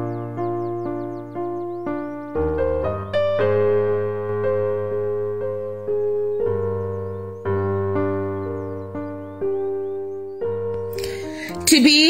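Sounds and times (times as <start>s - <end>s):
gentle keyboard chords: 0.0s - 12.0s.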